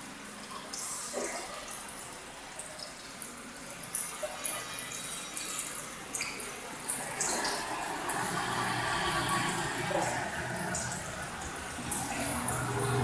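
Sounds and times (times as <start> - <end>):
aquarium water trickling and splashing: 0.0 - 13.0
water drips: 0.0 - 13.0.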